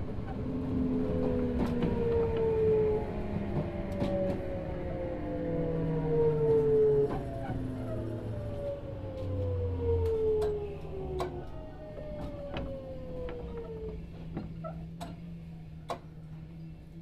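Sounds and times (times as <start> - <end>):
wheels clicking over rail joints: 0.0 - 4.9, 6.4 - 17.0
electric train inverter whining: 0.0 - 17.0.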